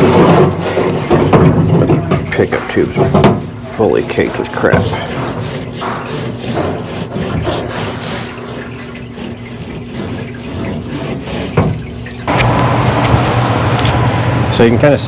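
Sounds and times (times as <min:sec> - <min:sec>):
liquid splashing: 0:00.0 - 0:14.2.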